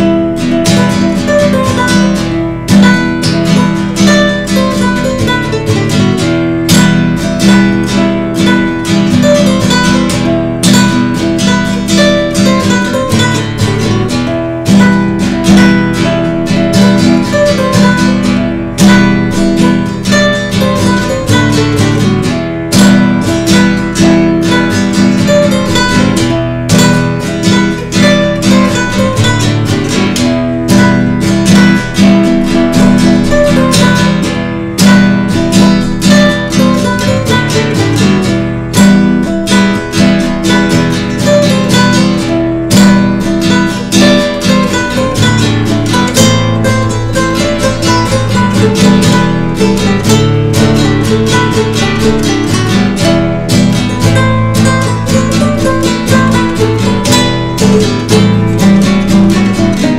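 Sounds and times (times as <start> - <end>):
classical guitar strumming: 0.0 - 59.9.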